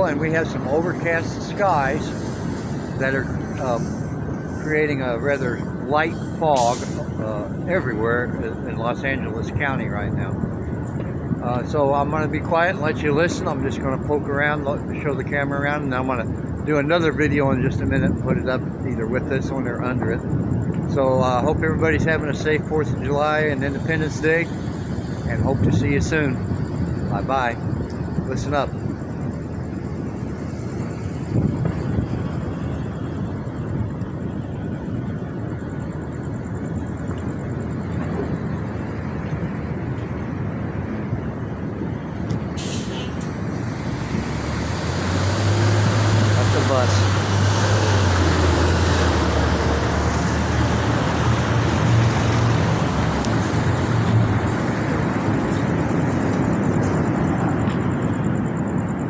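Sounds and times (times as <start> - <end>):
bus engine droning: 0.0 - 59.0
distant fireworks rumble: 0.0 - 59.0.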